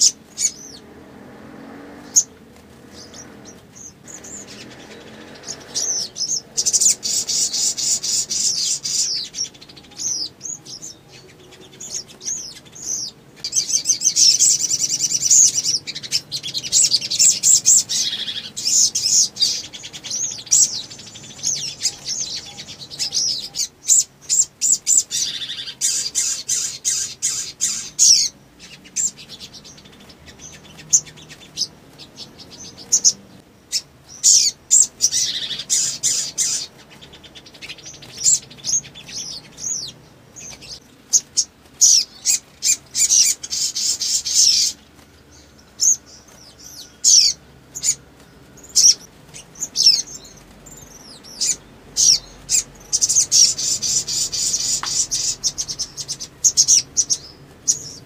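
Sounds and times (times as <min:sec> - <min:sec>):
bird singing high chirps and trills: 0:00.0 - 0:58.0.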